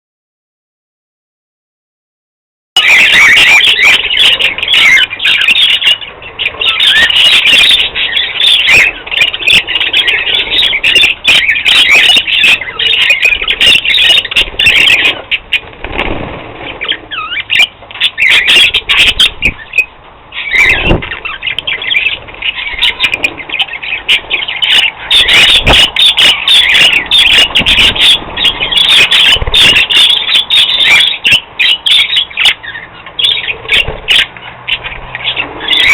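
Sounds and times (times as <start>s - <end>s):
budgerigars chattering: 2.8s - 35.9s.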